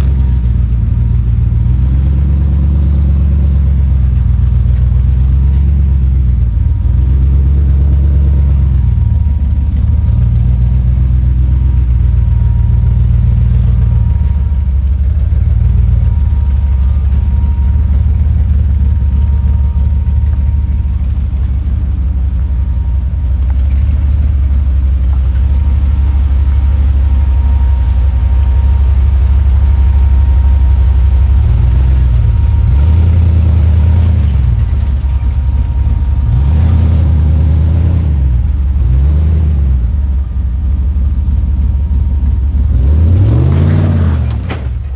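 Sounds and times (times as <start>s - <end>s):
pickup engine running: 0.0s - 44.9s.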